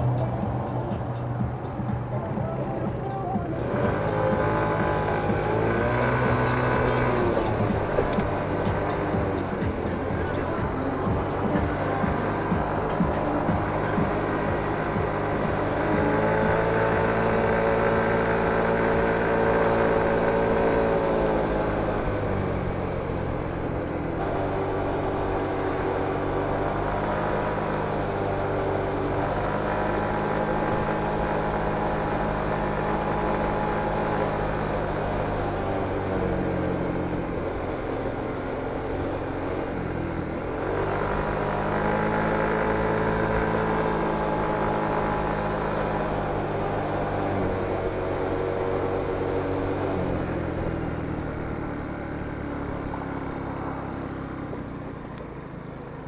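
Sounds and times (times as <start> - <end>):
motor scooter engine running: 0.0 - 56.0.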